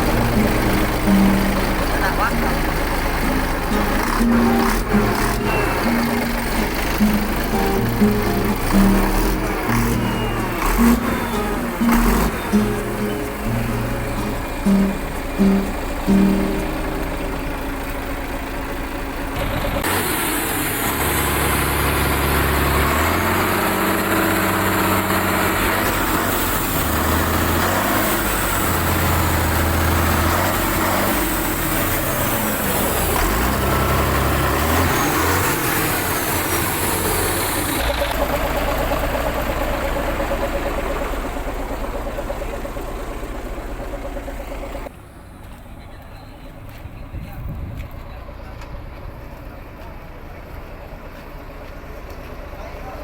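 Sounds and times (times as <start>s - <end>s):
truck diesel engine running: 0.0s - 53.0s.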